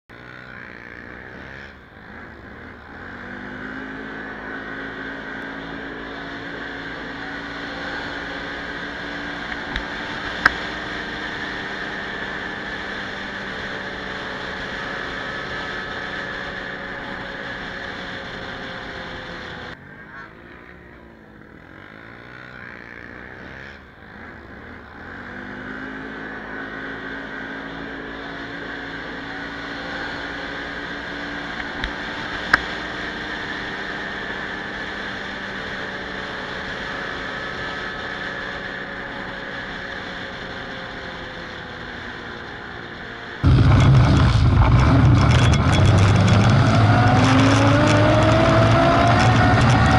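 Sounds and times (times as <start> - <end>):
quad bike engine running: 0.1 - 49.9.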